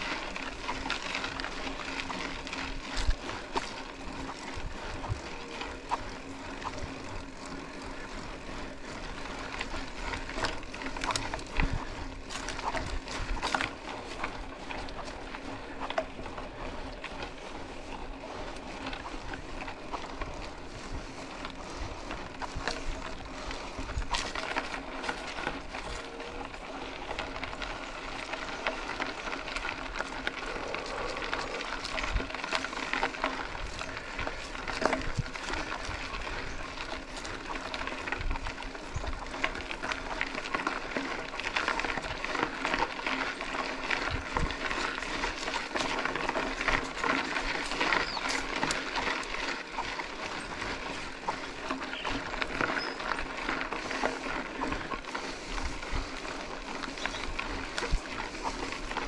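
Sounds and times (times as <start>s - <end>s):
bike rattling and knocking: 0.0s - 59.0s
bike tyres rolling on dirt: 0.0s - 59.0s.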